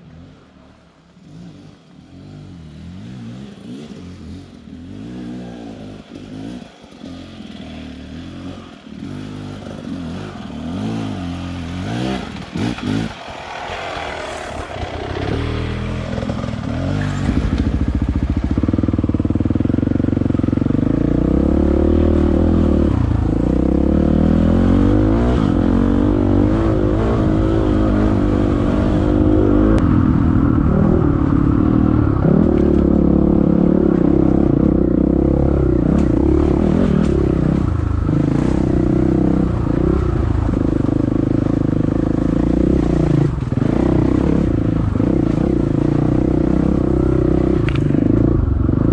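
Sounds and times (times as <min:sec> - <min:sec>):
dirt bike engine revving: 0:01.2 - 0:48.9.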